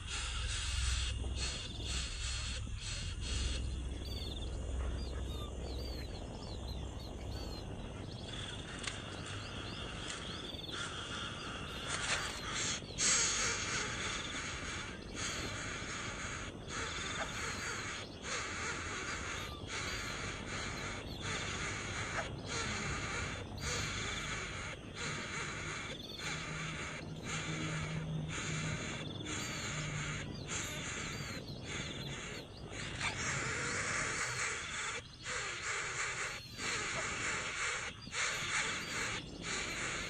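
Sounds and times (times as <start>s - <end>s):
bird chirps and raspy calls: 0.0s - 40.0s.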